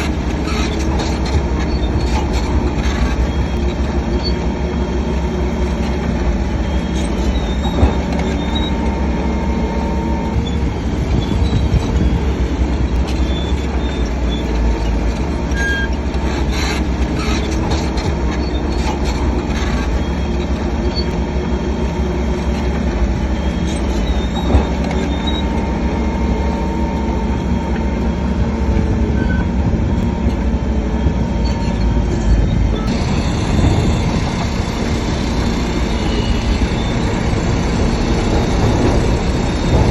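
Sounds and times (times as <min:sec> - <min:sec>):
high metallic squeaks: 0:00.0 - 0:04.6, 0:05.7 - 0:21.2, 0:22.5 - 0:27.4, 0:31.2 - 0:39.9
heavy diesel machinery rumbling: 0:00.0 - 0:39.9.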